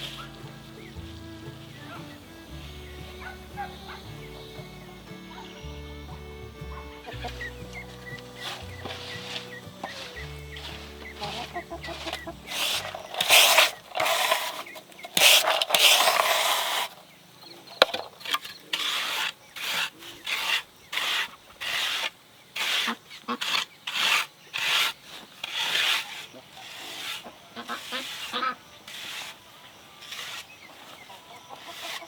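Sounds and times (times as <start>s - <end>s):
hand tool rasping wood: 0.0s - 17.0s, 17.8s - 32.0s.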